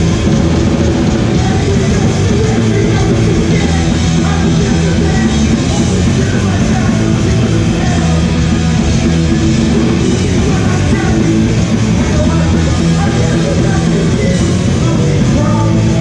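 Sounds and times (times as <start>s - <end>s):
punk band playing live: 0.0s - 16.0s.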